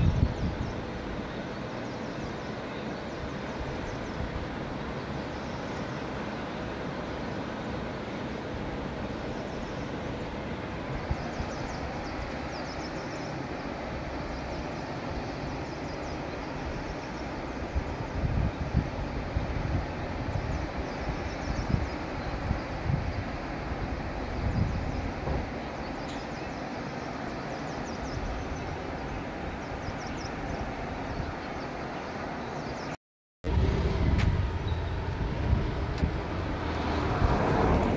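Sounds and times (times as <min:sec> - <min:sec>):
river rushing: 0:00.0 - 0:37.9.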